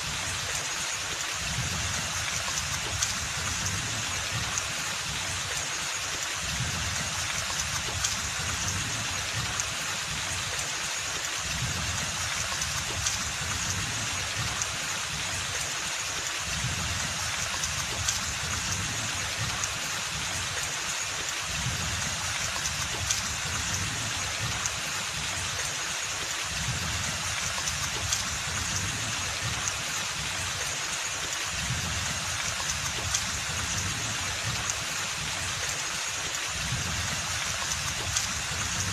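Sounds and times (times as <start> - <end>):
rain on foliage: 0.0 - 38.9.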